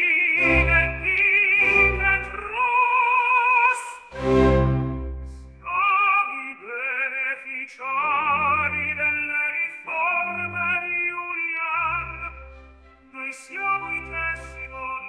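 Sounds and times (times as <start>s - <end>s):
operatic solo voice singing: 0.0s - 4.5s, 5.6s - 15.0s
low orchestral accompaniment: 0.0s - 6.0s, 8.0s - 15.0s.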